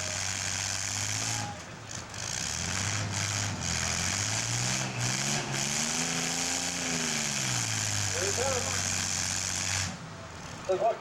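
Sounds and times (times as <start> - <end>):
small car engines revving: 0.0 - 11.0.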